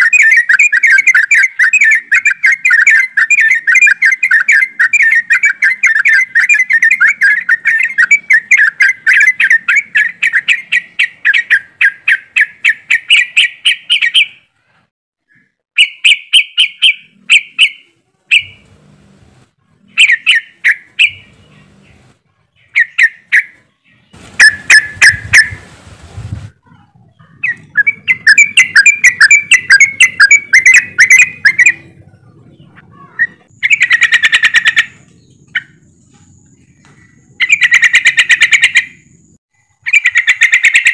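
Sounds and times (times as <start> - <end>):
bird chattering: 0.0 - 14.5, 15.3 - 18.6, 19.8 - 25.6, 26.6 - 40.9.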